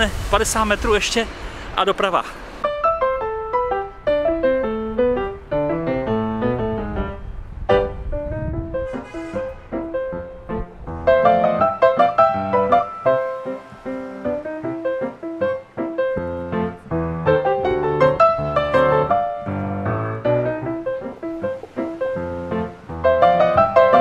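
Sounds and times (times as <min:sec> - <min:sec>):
piano music: 0:01.9 - 0:24.0.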